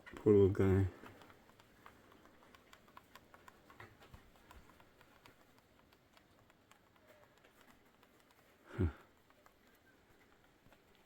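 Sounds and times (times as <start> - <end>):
faint light ticks and taps: 0.0 - 11.0.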